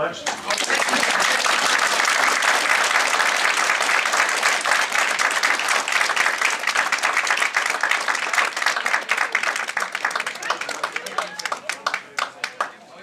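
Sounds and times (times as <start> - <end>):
audience applauding: 0.2 - 12.9.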